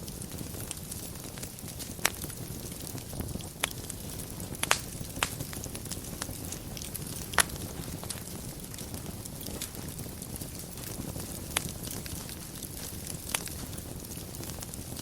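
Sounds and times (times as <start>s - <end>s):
fire burning with low rush: 0.0s - 15.0s
fire crackles and pops: 0.0s - 15.0s.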